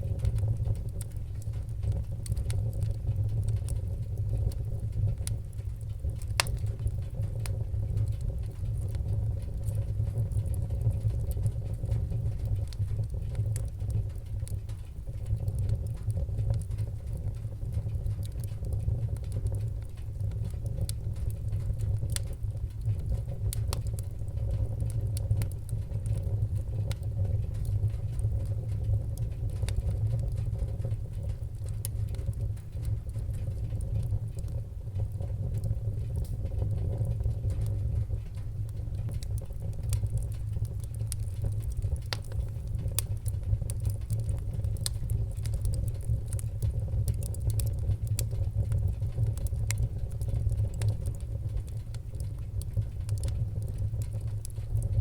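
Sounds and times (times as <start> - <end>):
fire crackling and popping: 0.0 - 55.0
wood fire rumbling: 0.0 - 55.0.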